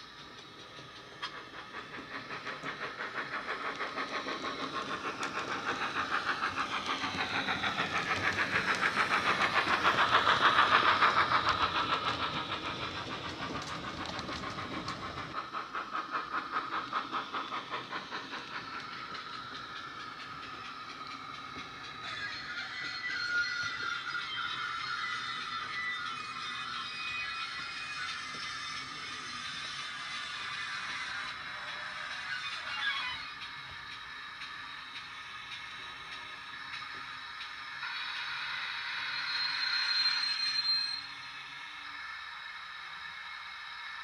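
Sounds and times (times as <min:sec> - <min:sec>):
model steam locomotive chuffing: 0:00.0 - 0:44.0.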